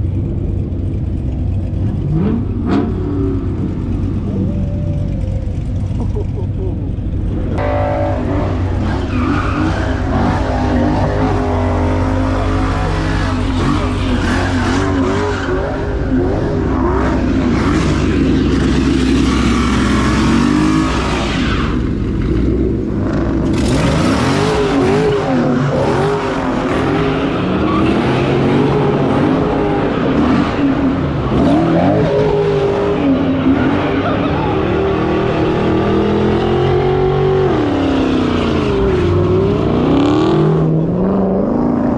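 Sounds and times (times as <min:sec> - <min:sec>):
car engine revving: 0:00.0 - 0:41.9
tyres squealing and skidding: 0:02.1 - 0:22.2, 0:23.5 - 0:40.2.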